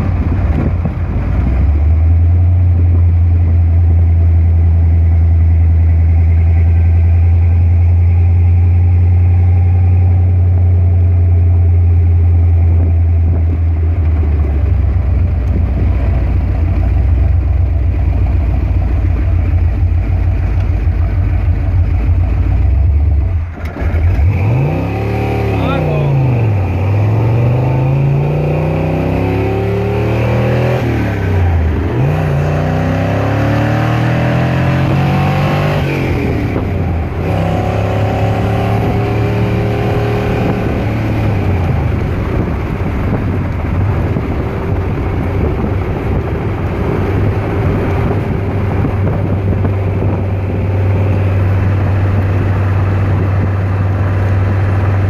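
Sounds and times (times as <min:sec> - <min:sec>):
car engine accelerating through gears: 0:00.0 - 0:55.0
road and wind noise: 0:00.0 - 0:55.0.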